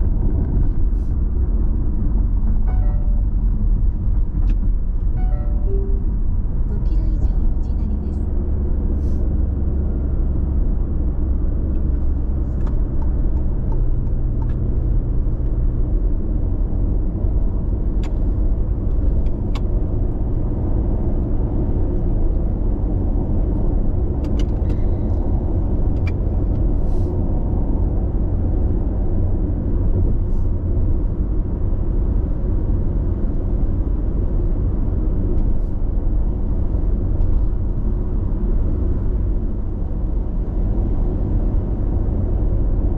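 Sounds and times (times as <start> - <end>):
car road noise inside cabin: 0.0 - 42.9.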